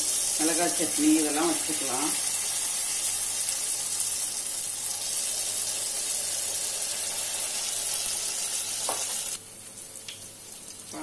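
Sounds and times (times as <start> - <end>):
batter sizzling in oil: 0.0 - 11.0.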